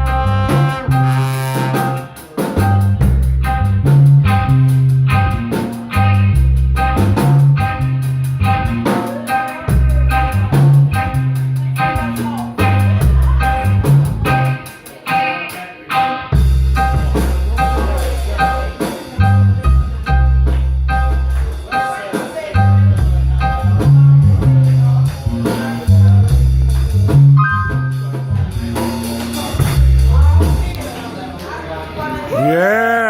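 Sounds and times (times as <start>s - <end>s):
bass line: 0.0s - 14.7s, 16.3s - 21.7s, 22.6s - 30.9s
drum kit: 0.0s - 31.0s.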